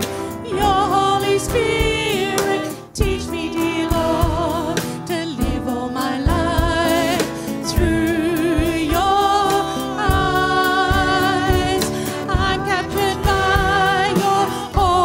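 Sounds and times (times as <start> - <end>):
acoustic guitar: 0.0 - 15.0
drum kit beat: 0.0 - 15.0
person singing: 0.0 - 15.0.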